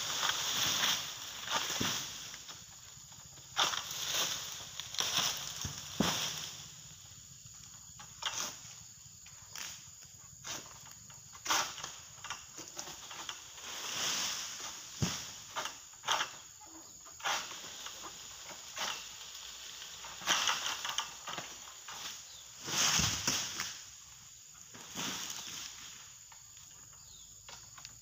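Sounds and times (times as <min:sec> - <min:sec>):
palm fronds rustling and cracking: 0:00.0 - 0:08.7, 0:09.3 - 0:28.0.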